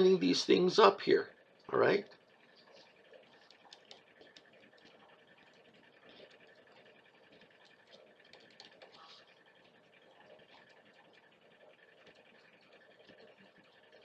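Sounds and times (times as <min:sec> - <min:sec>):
pencil ticking and scratching: 0:00.0 - 0:14.0.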